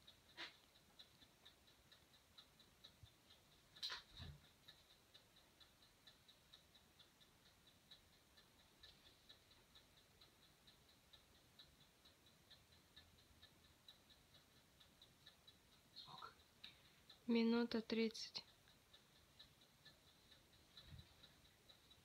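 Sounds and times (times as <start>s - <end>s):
faint even ticking: 0.0s - 22.0s.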